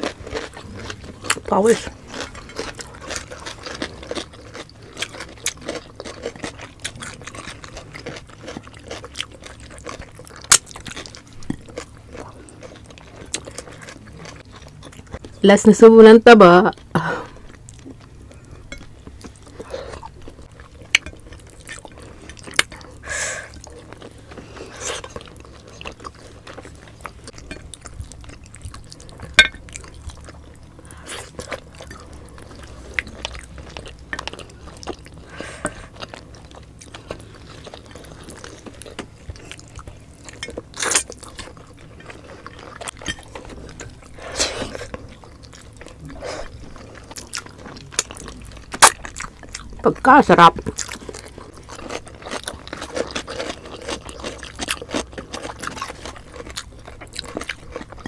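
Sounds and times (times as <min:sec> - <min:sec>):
soft chewing: 0:00.0 - 0:15.4, 0:16.7 - 0:58.0.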